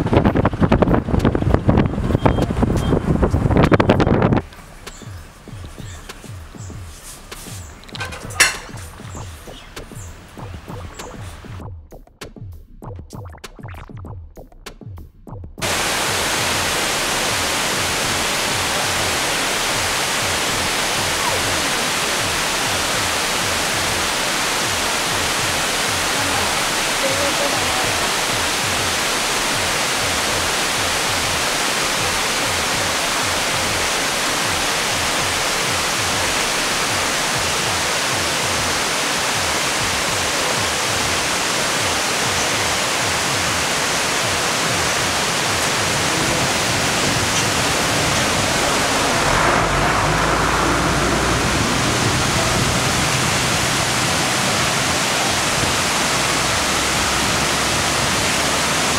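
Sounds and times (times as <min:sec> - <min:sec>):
waterfall rushing: 0:00.0 - 0:11.6, 0:15.6 - 0:58.9.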